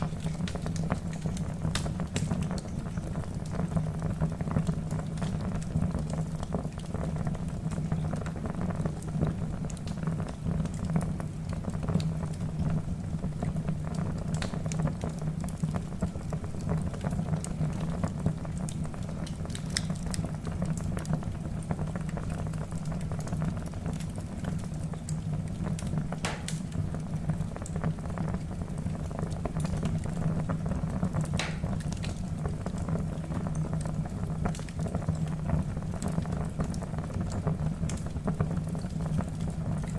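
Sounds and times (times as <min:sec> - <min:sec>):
burning wood crackling and popping: 0:00.0 - 0:39.9.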